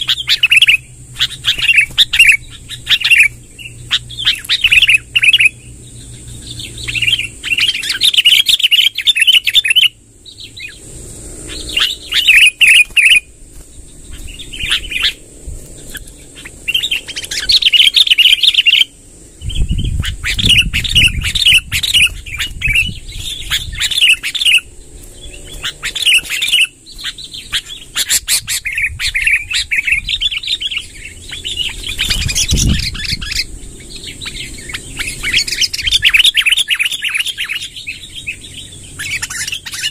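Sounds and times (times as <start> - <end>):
bulbul singing rolling song: 0.0 - 39.9.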